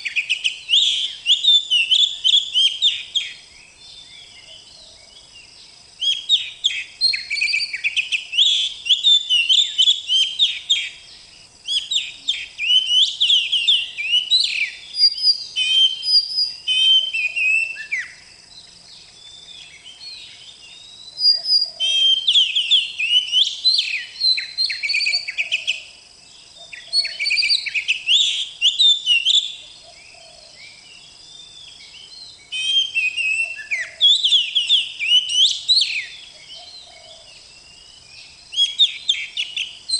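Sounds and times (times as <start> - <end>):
bird singing whistled phrases: 0.0 - 3.4, 6.0 - 11.0, 11.6 - 18.2, 19.2 - 25.9, 26.7 - 29.6, 31.4 - 39.9.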